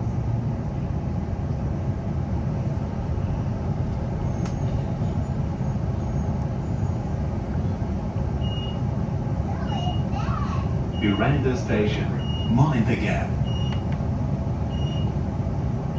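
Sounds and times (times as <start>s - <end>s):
electric train running rumble: 0.0s - 15.9s.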